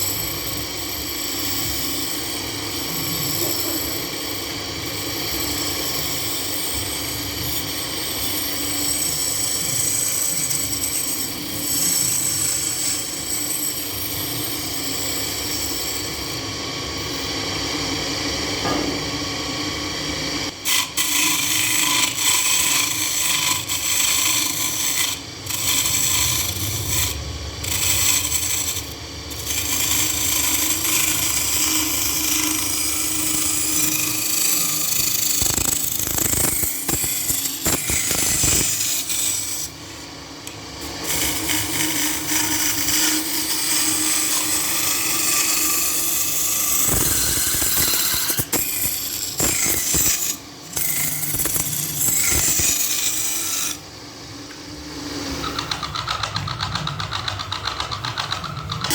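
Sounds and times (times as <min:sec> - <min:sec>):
lathe tool scraping workpiece: 0:00.0 - 0:58.9.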